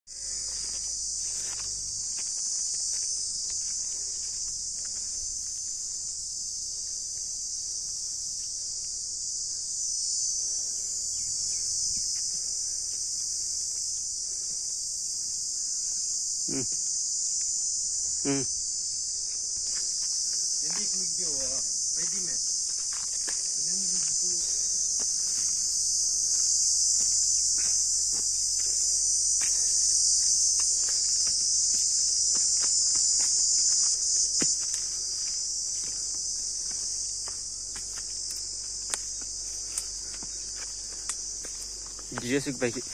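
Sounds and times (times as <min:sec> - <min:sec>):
high-pitched insect chorus: 0:00.1 - 0:42.9.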